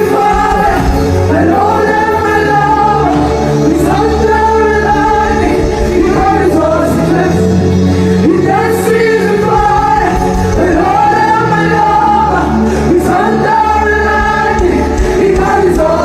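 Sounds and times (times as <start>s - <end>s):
gospel voices singing: 0.0s - 16.0s
held chords and bass: 0.0s - 16.0s.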